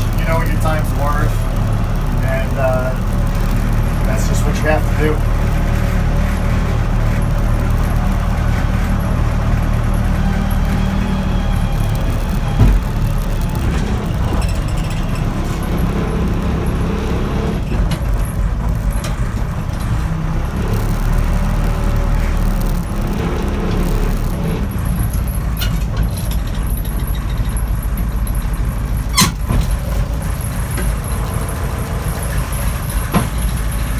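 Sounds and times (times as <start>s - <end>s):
backhoe engine running: 0.0s - 33.9s.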